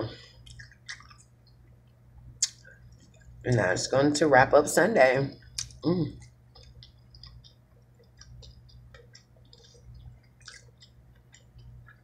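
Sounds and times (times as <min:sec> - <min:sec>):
low steady hum: 0:00.0 - 0:12.0
faint chewing: 0:00.3 - 0:03.4, 0:05.4 - 0:12.0.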